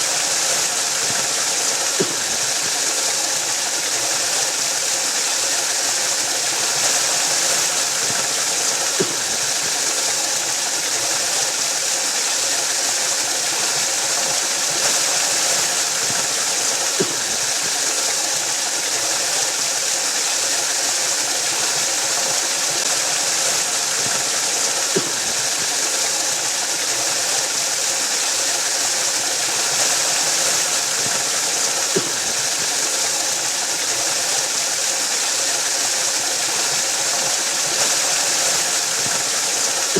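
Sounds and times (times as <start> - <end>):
waterfall roar: 0.0 - 39.9.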